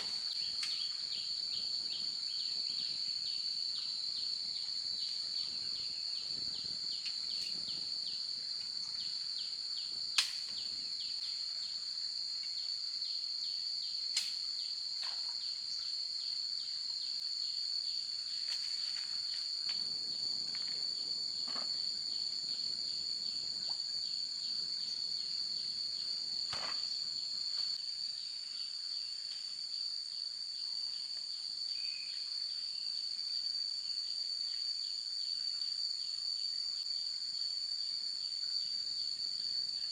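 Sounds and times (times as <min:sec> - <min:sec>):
insects droning high pitch: 0:00.0 - 0:39.9.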